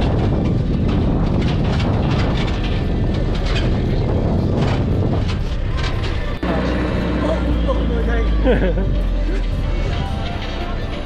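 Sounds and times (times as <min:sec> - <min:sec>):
truck engine and road rumble: 0:00.0 - 0:11.0
vehicle rattles and knocks: 0:00.0 - 0:11.0.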